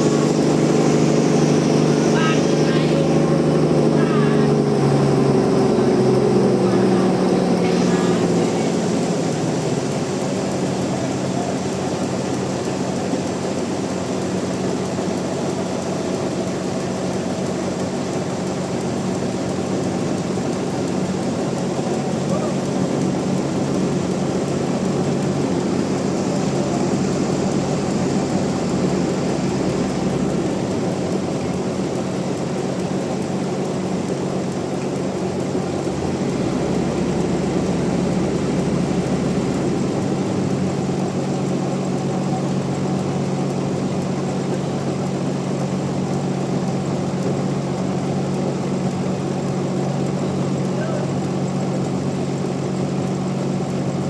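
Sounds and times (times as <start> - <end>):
bandsaw mill humming: 0.0 - 54.0.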